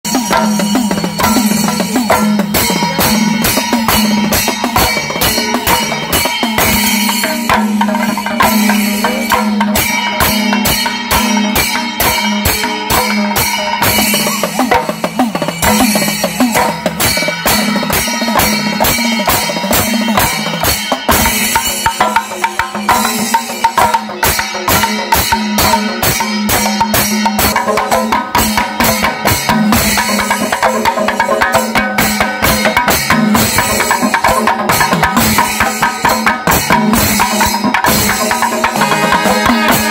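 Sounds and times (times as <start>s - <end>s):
fast drumming ensemble: 0.0s - 39.9s.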